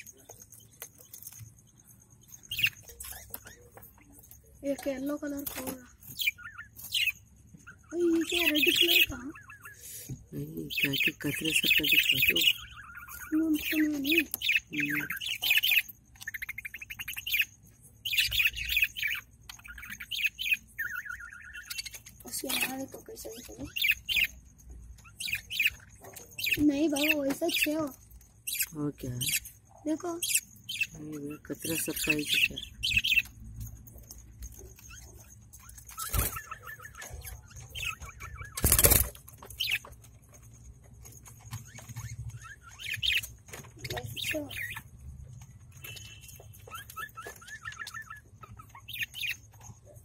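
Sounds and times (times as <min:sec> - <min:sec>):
budgerigar chicks chirping: 0:00.0 - 0:50.0.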